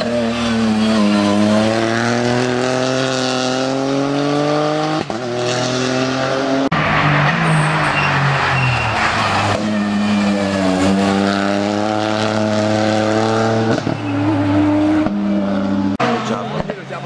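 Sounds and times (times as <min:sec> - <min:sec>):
rally car engine pulling hard: 0:00.0 - 0:16.8.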